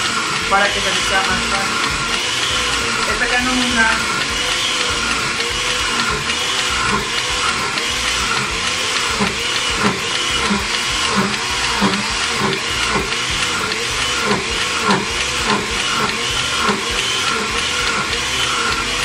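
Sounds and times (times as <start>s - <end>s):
blender motor whirring: 0.0s - 19.0s.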